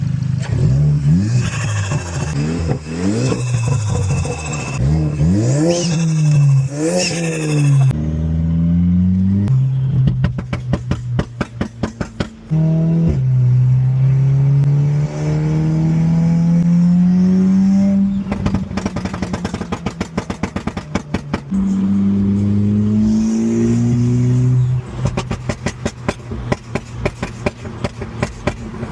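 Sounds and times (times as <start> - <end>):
car engine revving: 0.4 - 28.9.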